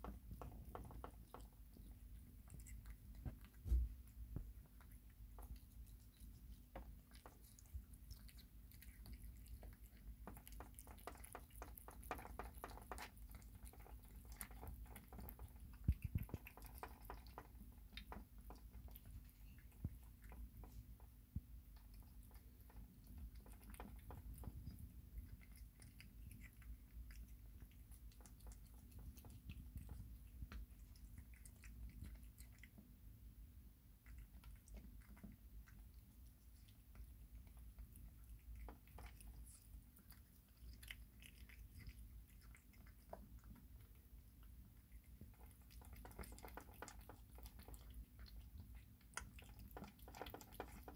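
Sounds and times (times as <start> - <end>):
kitten chewing and licking: 0.0 - 50.9.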